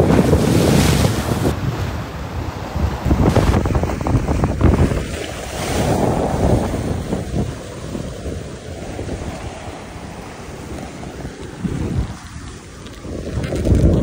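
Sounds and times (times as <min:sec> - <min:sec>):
waves washing: 0:00.0 - 0:14.0
wind buffeting microphone: 0:00.0 - 0:14.0.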